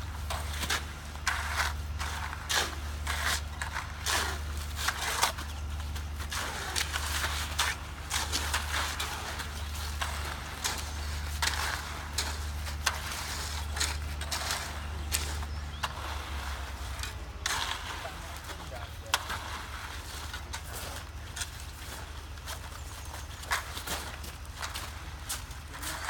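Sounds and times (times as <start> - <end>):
low engine hum: 0.0 - 26.0
shovels scraping wet concrete: 0.0 - 26.0.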